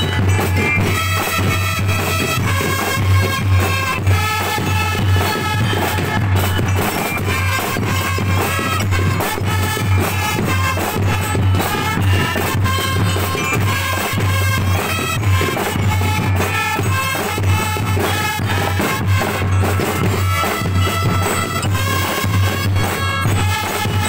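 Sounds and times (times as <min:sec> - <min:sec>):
bugles holding melody: 0:00.0 - 0:24.0
snare and bass drums: 0:00.0 - 0:24.0.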